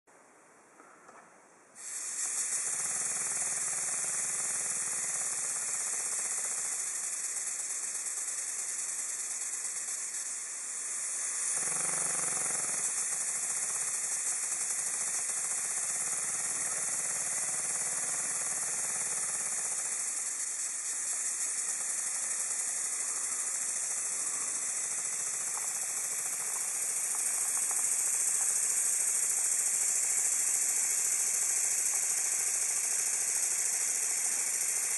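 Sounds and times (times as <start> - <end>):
loud hiss of air through pump: 1.8 - 34.9.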